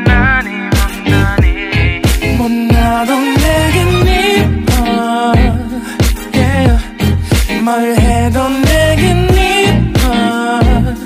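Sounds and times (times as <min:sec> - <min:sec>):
r and b pop song: 0:00.0 - 0:11.0.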